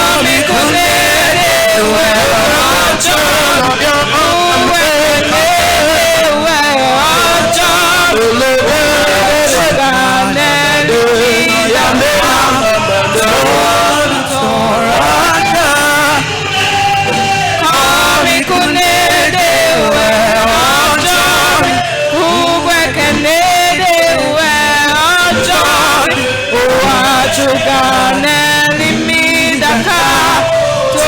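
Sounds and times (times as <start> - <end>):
band accompaniment: 0.0 - 31.0
man singing: 0.0 - 31.0.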